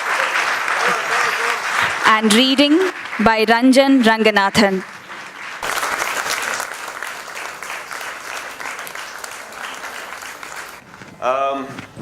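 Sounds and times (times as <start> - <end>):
audience applauding: 0.0 - 3.3, 4.0 - 10.8.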